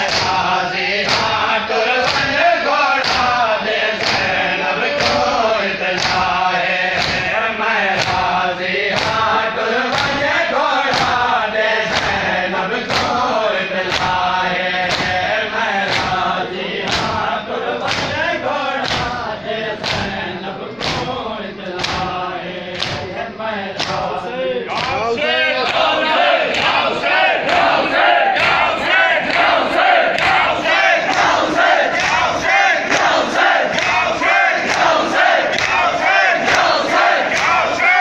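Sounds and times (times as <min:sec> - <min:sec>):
crowd of men chanting: 0:00.0 - 0:38.0.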